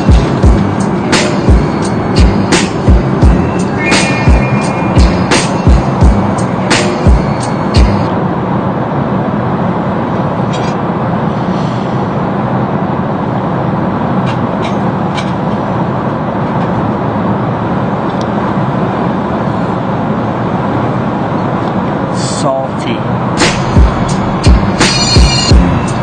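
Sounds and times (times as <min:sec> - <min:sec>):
airliner cabin engine rush: 0:00.0 - 0:26.0.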